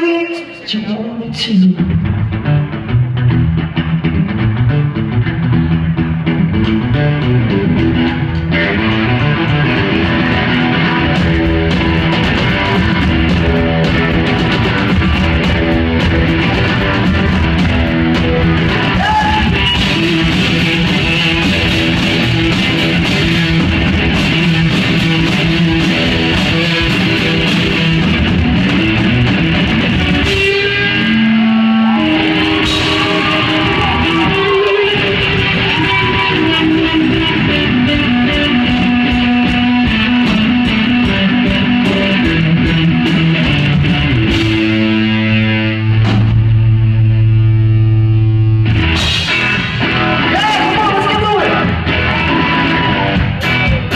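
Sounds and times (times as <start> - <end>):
electric guitar: 0.0 - 53.9
drum kit: 1.8 - 53.9.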